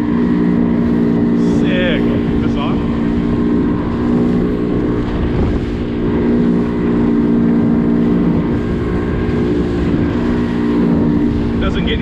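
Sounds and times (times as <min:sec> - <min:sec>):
outboard motor running: 0:00.0 - 0:12.0
rush of wind and water: 0:00.0 - 0:12.0.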